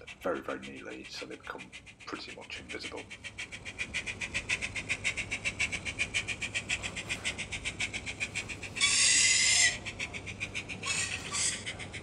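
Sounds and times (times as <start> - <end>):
model steam locomotive chuffs: 0.0 - 10.0.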